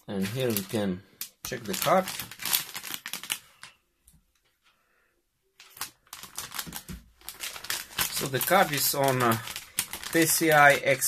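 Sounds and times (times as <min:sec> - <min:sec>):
plastic bag crinkling: 0:00.2 - 0:03.8, 0:05.6 - 0:11.0.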